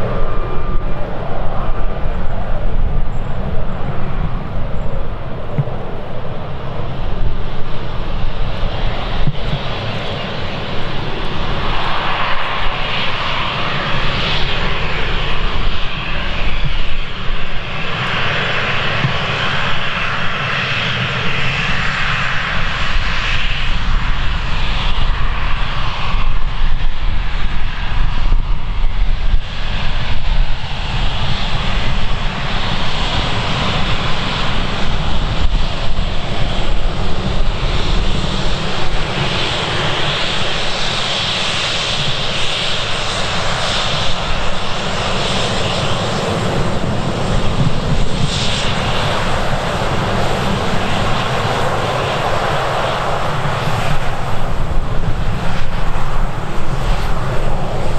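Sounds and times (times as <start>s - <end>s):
jet engines running: 0.0s - 57.9s.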